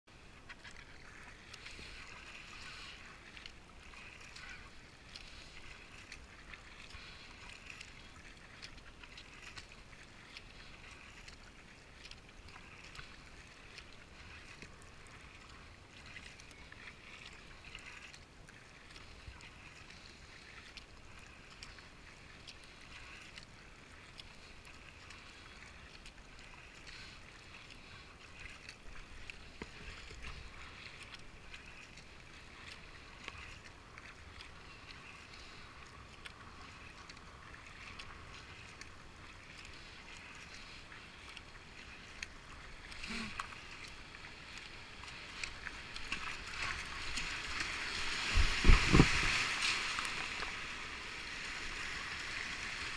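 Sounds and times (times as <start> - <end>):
paddle strokes splashing: 0.1 - 52.9
water washing along hull: 0.1 - 52.9
water drips: 0.4 - 50.7.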